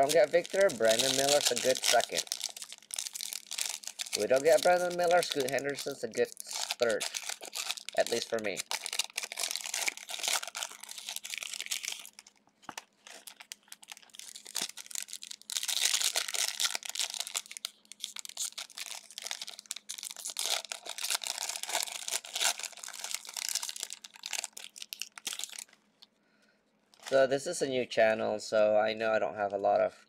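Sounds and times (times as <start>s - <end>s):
card pack wrapper crinkling: 0.0s - 25.8s, 26.9s - 27.3s.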